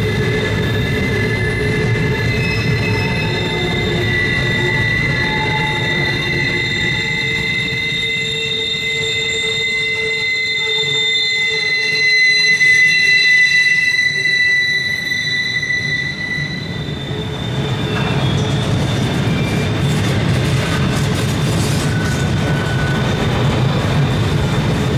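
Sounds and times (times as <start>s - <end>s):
high-pitched wheel squeal: 0.0s - 20.9s, 21.6s - 24.9s
rumble of train wheels: 0.0s - 24.9s.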